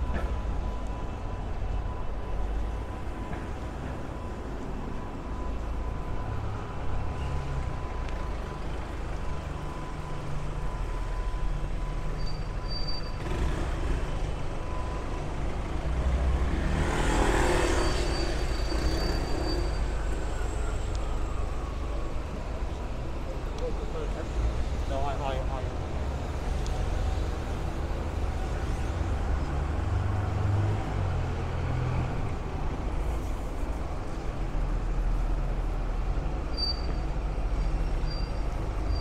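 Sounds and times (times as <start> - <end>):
car and bus engines rumbling: 0.0 - 39.0.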